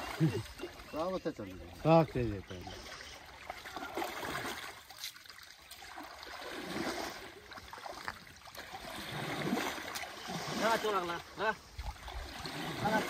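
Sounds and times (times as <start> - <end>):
shallow water sloshing: 0.0 - 13.0
small splashes: 0.0 - 13.0.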